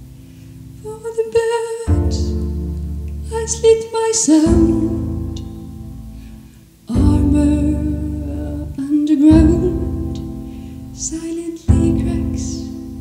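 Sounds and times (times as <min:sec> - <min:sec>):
wordless sung melody: 0:00.0 - 0:13.0.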